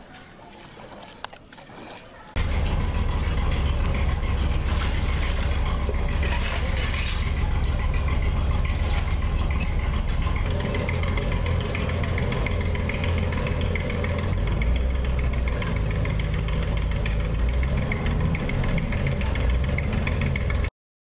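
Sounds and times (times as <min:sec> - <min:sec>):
boat engine humming: 0:00.0 - 0:20.7.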